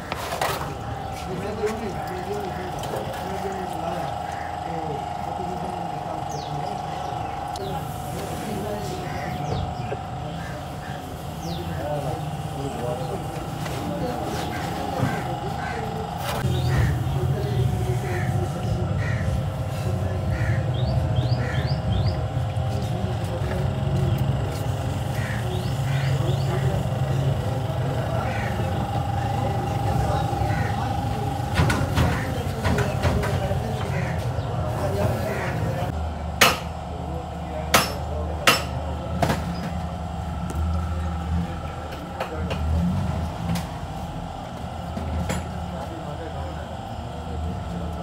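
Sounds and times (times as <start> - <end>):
low mechanical rumble: 0.0 - 48.0.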